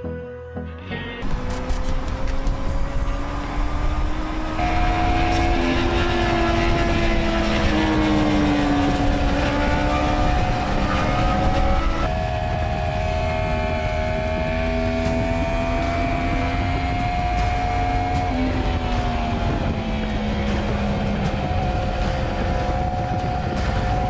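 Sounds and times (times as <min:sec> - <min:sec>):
motorbike engine running: 0:01.2 - 0:24.0.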